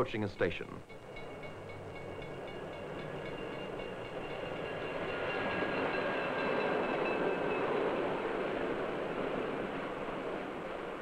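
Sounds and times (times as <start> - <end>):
faint high steady tones: 0.0 - 8.8
train rumbling on rails: 0.0 - 11.0.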